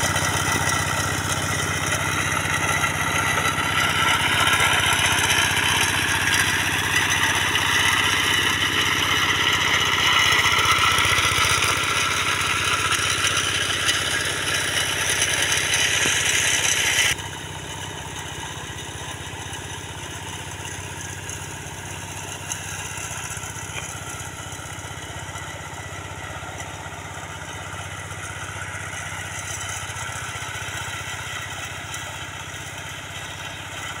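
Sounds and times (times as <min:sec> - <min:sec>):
hand tractor engine running: 0:00.0 - 0:34.0.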